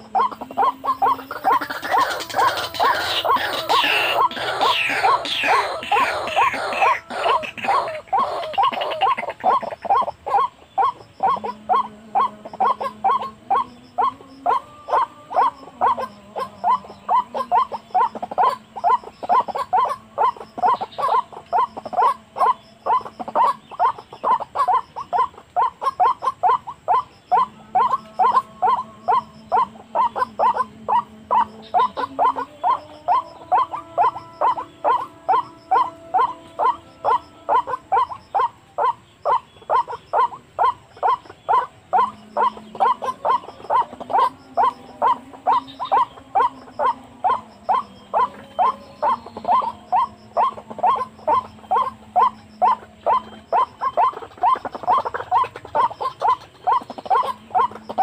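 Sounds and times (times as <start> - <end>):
bird call repeated monotonous note: 0.0 - 58.0.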